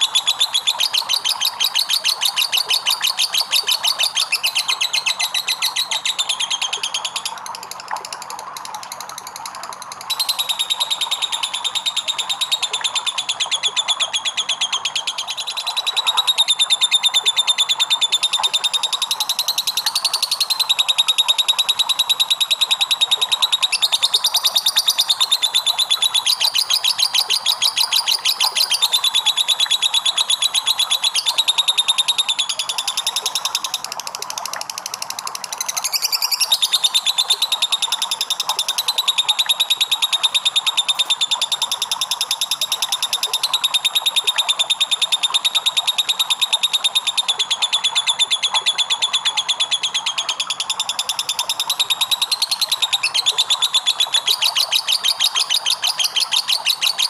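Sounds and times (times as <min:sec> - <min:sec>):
lovebird chattering trill: 0:00.0 - 0:07.6, 0:10.0 - 0:33.9, 0:35.6 - 0:57.0.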